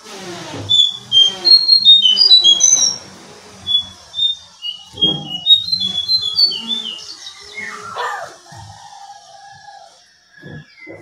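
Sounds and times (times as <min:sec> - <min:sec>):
songbird chirping: 0:00.7 - 0:11.0.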